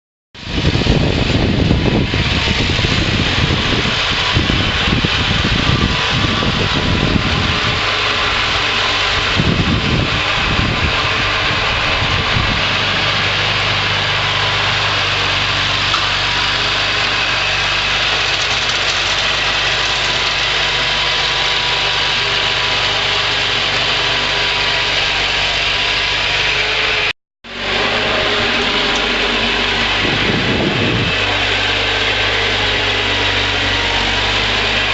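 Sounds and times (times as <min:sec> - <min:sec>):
garden tractor engine running: 0:00.4 - 0:34.9.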